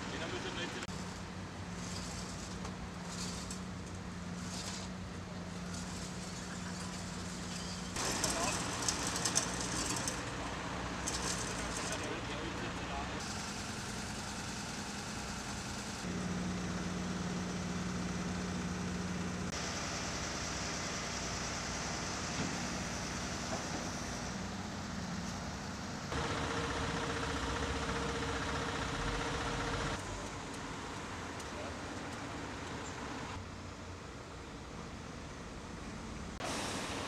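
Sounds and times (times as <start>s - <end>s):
vehicle engines idling: 0.0s - 37.0s.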